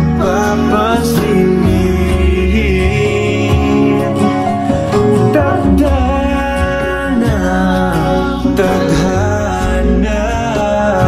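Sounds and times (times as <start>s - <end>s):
slow pop ballad with guitar: 0.0s - 11.0s.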